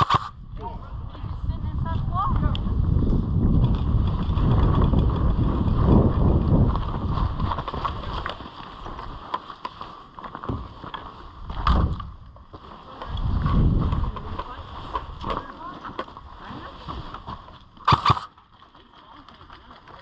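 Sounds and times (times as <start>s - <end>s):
wind rumbling on microphone: 0.0s - 9.4s, 10.4s - 18.3s.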